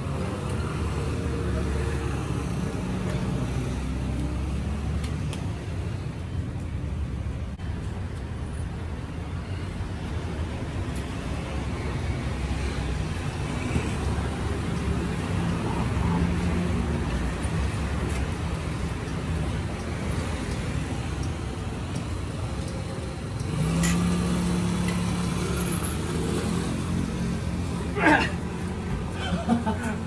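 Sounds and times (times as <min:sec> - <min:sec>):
car engines rumbling: 0:00.0 - 0:30.0.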